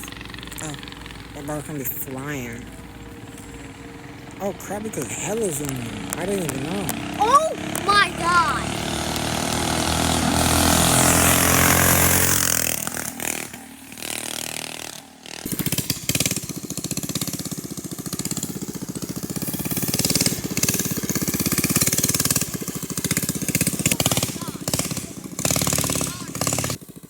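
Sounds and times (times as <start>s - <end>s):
minibike speeding past: 0.0s - 27.0s
small engine idling: 0.0s - 27.0s.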